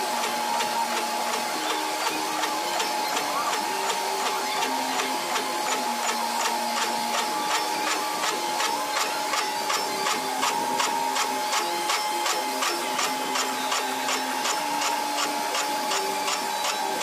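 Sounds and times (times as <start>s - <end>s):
milling machine whine: 0.0s - 17.0s
cutter ticking on metal: 0.2s - 17.0s.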